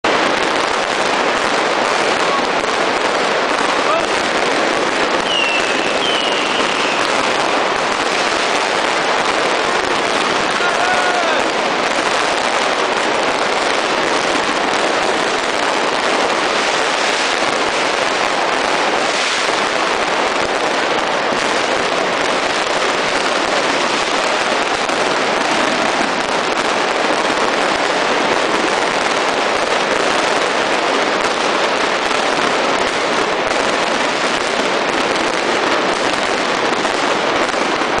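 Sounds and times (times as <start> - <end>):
fireworks and firecrackers crackling: 0.0 - 38.0.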